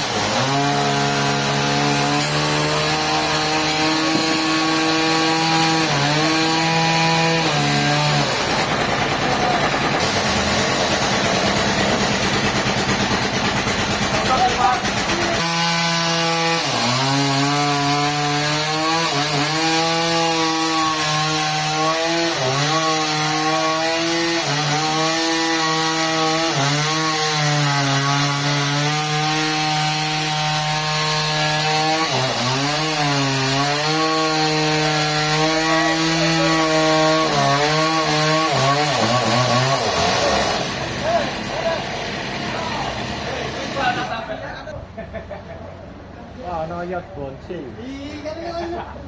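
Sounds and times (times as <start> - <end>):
engine-driven saw cutting log: 0.0 - 44.4.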